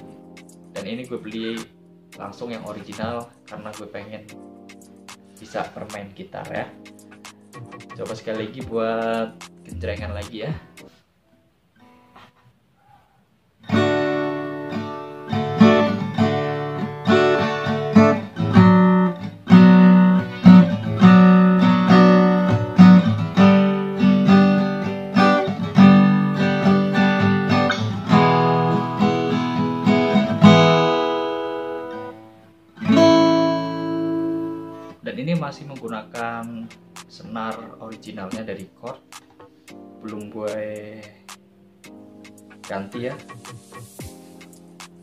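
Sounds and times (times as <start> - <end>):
acoustic guitar strumming chords: 0.0 - 11.0, 13.6 - 45.0.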